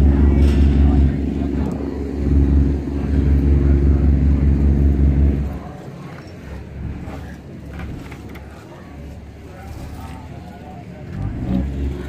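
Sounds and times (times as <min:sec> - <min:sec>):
large engine humming: 0:00.0 - 0:12.0.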